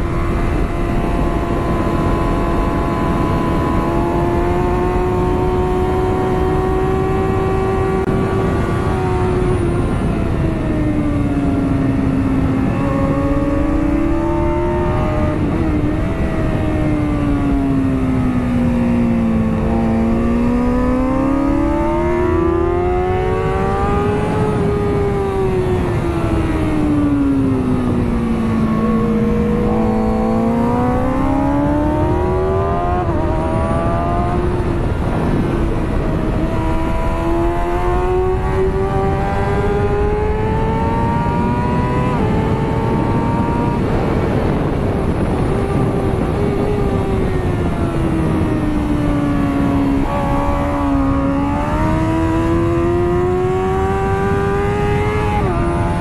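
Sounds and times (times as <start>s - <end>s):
motorcycle engine running hard: 0.0s - 56.0s
wind rush on microphone: 0.0s - 56.0s.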